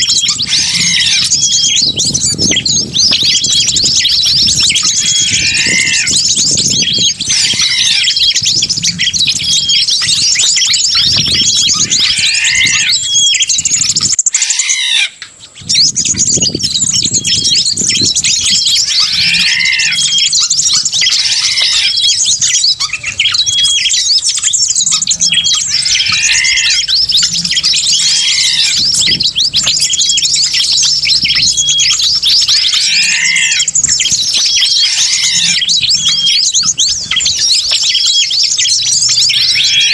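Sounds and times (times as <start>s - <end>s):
repeating bird call: 0.0s - 39.9s
small birds chirping: 0.0s - 39.9s.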